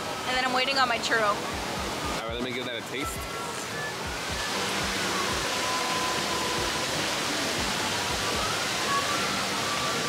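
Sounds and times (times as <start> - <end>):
faint music: 0.0 - 10.0
steady rushing noise: 0.0 - 10.0.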